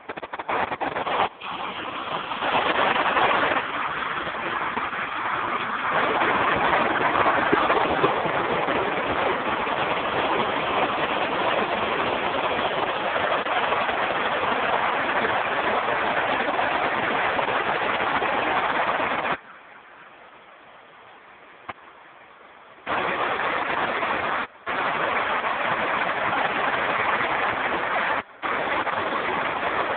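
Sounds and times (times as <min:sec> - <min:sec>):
waterfall rushing: 0:00.0 - 0:19.8, 0:20.6 - 0:29.9.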